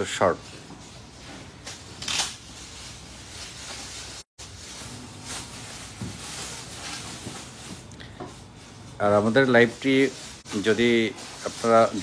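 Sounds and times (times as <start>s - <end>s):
packaging rustling: 1.0s - 12.0s.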